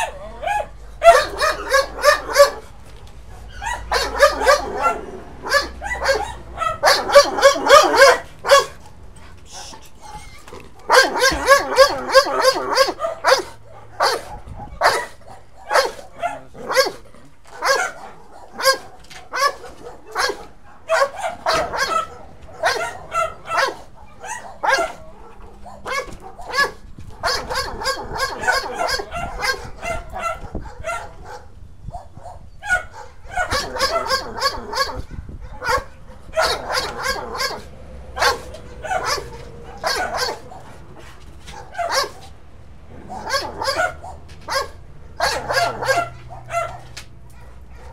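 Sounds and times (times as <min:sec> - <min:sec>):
dog barking and yipping: 0:00.0 - 0:47.9.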